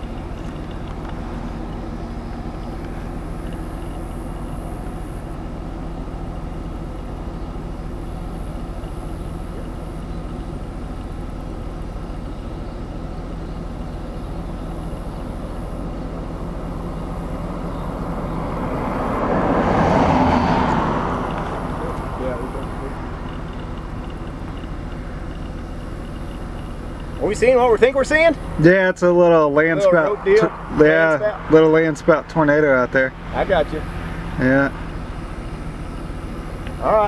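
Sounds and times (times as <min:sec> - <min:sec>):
vehicle approaching: 0:00.0 - 0:37.0
vehicle engine idling: 0:00.0 - 0:37.0.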